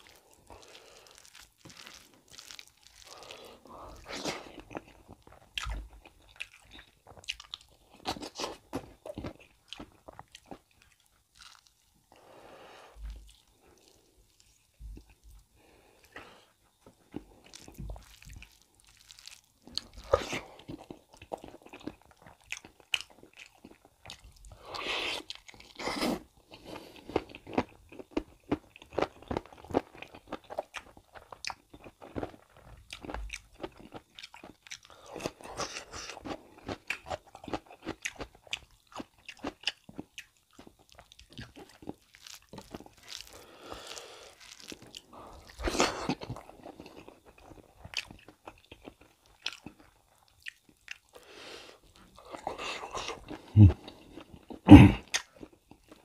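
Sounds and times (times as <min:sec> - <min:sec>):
man chewing food: 0:00.0 - 0:56.0.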